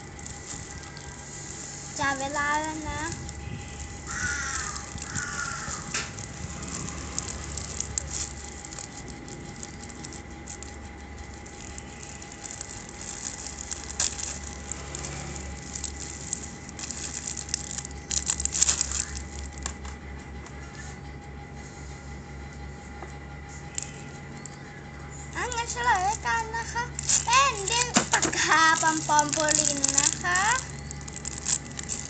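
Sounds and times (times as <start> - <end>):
plastic packaging crinkling: 0.0 - 20.1, 23.7 - 24.5, 25.3 - 32.0.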